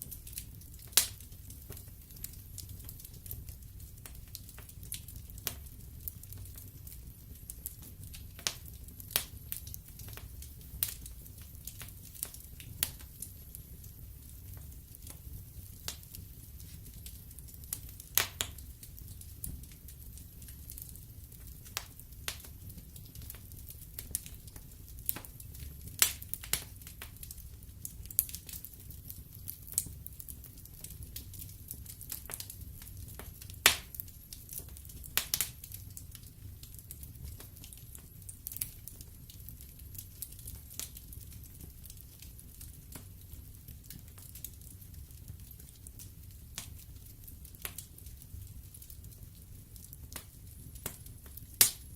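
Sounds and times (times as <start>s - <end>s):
logs crackling and popping: 0.0s - 51.9s
low rumble of flames: 0.0s - 51.9s.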